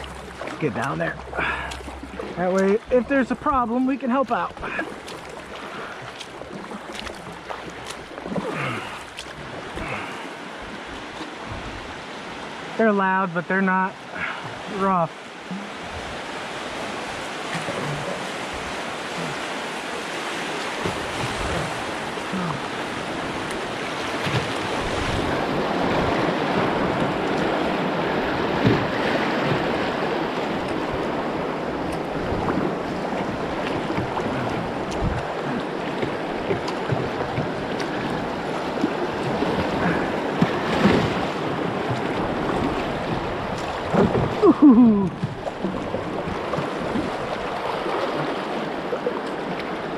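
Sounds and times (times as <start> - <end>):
river rapids rushing: 0.0 - 49.9.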